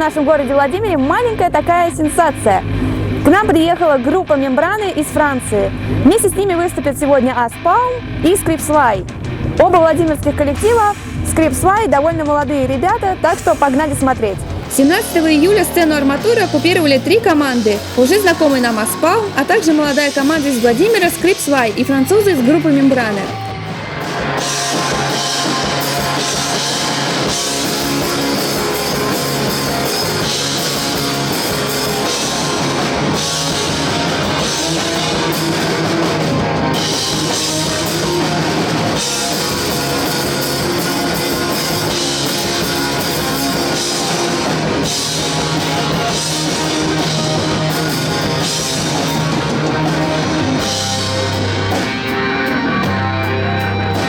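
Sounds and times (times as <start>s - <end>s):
rock music with guitar and drums: 0.0s - 54.0s.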